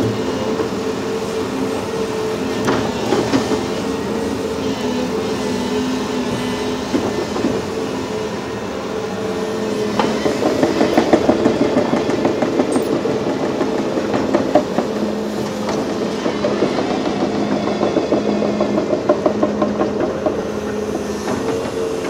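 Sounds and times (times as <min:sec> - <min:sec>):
excavator engine drone: 0:00.0 - 0:22.0.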